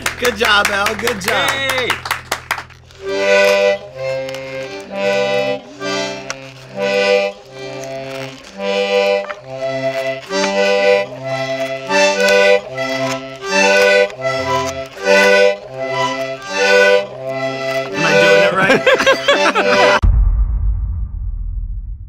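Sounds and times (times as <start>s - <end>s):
toy accordion playing chords: 0.0s - 20.0s.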